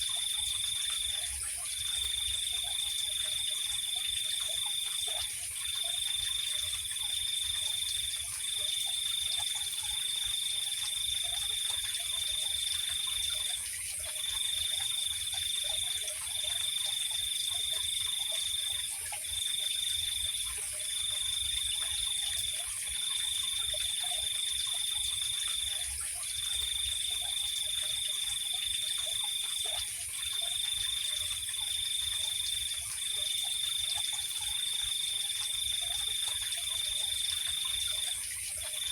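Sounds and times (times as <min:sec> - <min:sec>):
insect hiss: 0:00.0 - 0:38.9.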